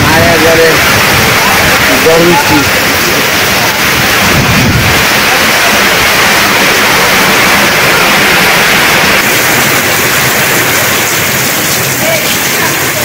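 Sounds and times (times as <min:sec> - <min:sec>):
low gust-like rumble: 0:00.0 - 0:12.2
heavy rain on tin roofs: 0:00.0 - 0:13.0
water running off roof eaves: 0:00.0 - 0:13.0.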